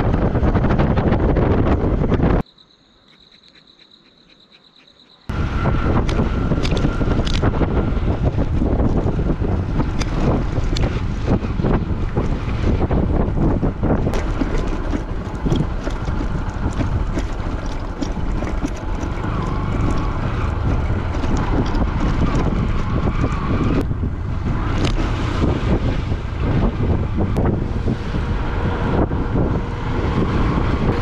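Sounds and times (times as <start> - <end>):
wind buffeting microphone: 0.0 - 2.4, 5.3 - 31.0
motorcycle engine: 5.3 - 31.0.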